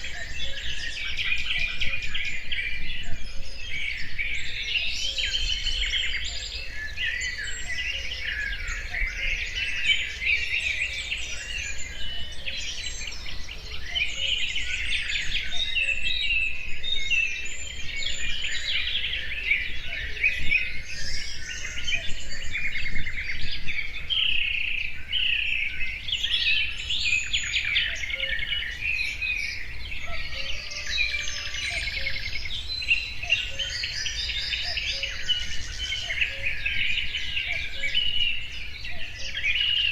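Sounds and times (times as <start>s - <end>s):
birds singing in chorus: 0.0s - 39.9s.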